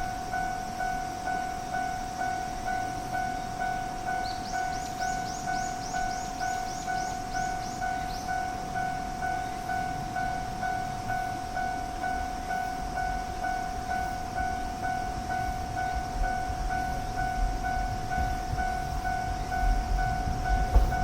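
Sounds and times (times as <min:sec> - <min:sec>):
level crossing warning bell ringing: 0:00.0 - 0:21.0
low rumble of train: 0:00.0 - 0:21.0.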